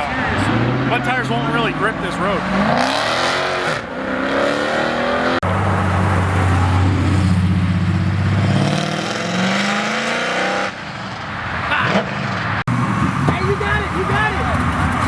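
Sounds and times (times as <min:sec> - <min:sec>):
car engine revving hard: 0:00.0 - 0:07.6, 0:08.2 - 0:10.8, 0:11.8 - 0:15.0.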